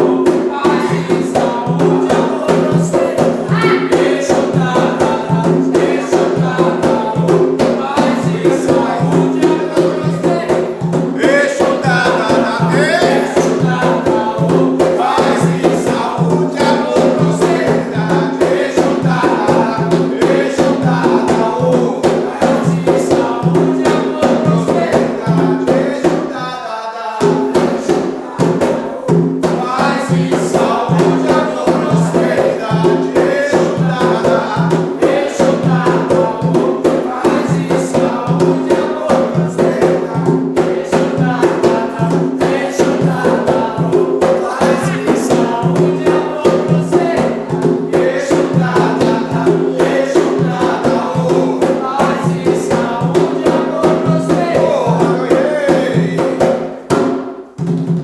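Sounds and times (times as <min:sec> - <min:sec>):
hand drums and percussion: 0:00.0 - 0:26.6, 0:27.2 - 0:58.0
group singing: 0:00.0 - 0:57.6.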